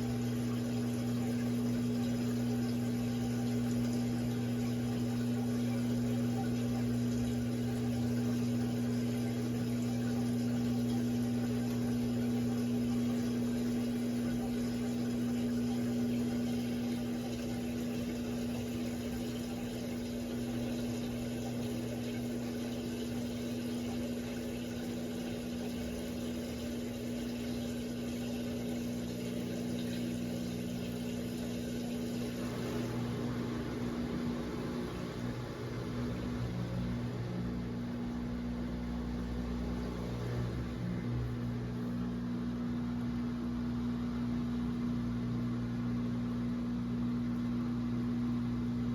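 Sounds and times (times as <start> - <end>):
washing machine humming: 0.0 - 48.9.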